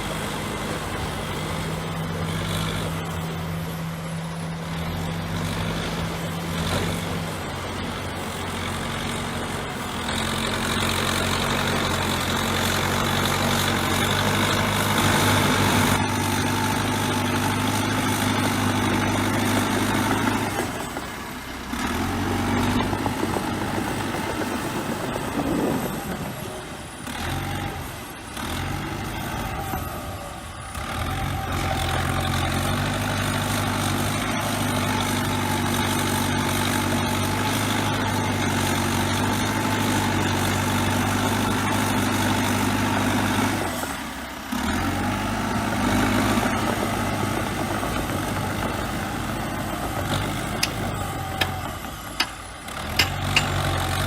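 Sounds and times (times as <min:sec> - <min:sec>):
bulldozer diesel engine working: 0:00.0 - 0:54.0.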